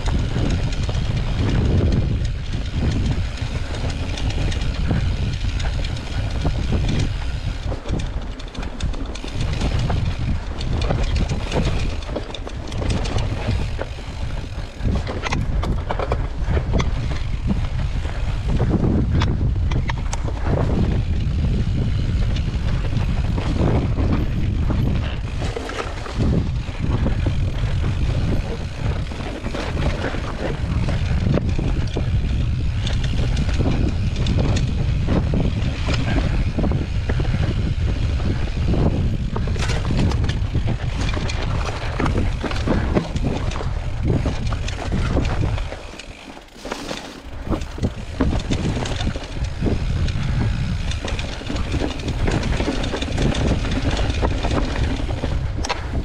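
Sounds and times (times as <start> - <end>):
bike rattling over rocks: 0.0 - 56.0
wind rumbling on microphone: 0.0 - 56.0.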